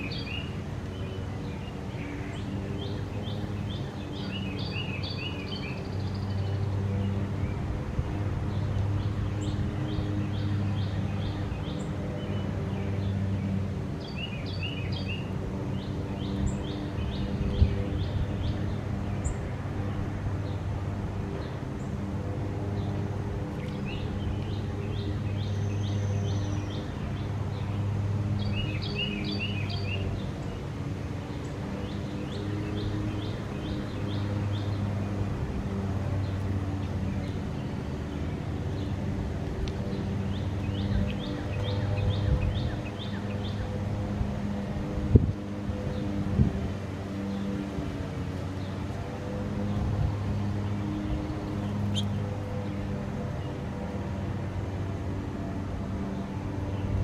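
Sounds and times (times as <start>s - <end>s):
songbird chirping: 0.0s - 20.7s, 22.7s - 44.6s, 46.8s - 53.6s
low droning hum: 0.0s - 57.0s.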